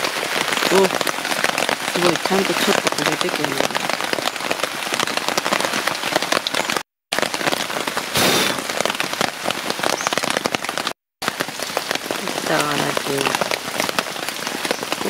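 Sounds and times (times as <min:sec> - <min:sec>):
steady rain pattering: 0:00.0 - 0:15.0.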